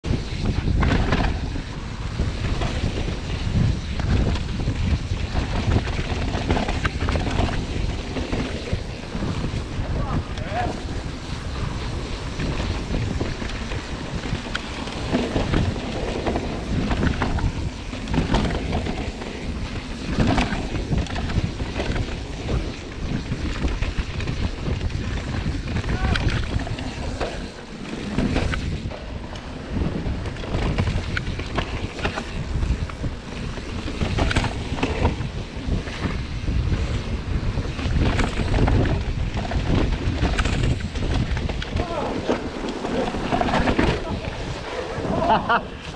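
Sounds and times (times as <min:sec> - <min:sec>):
wind buffeting microphone: 0:00.0 - 0:45.9
tyres rolling over dirt and rocks: 0:00.1 - 0:45.9
bike clattering over bumps: 0:00.2 - 0:45.9.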